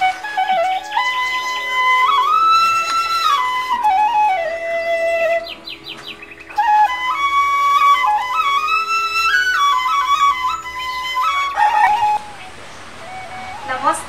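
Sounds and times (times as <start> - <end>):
flute melody: 0.0 - 14.0.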